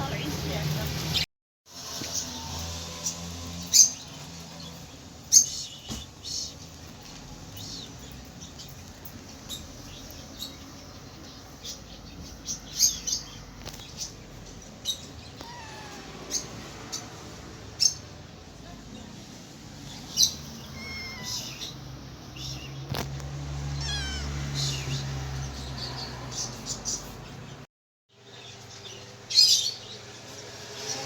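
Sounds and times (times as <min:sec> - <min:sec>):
small birds chirping: 0:01.8 - 0:31.0.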